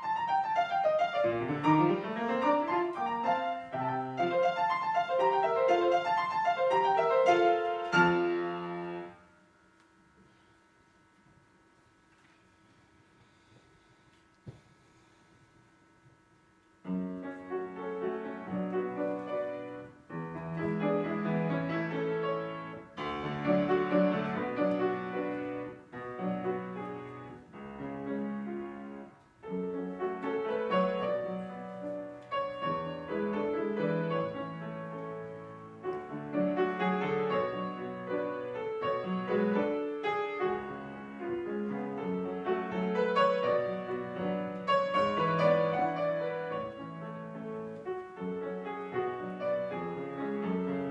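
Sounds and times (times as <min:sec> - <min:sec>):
piano playing classical piece: 0:00.0 - 0:09.2, 0:16.8 - 0:50.9.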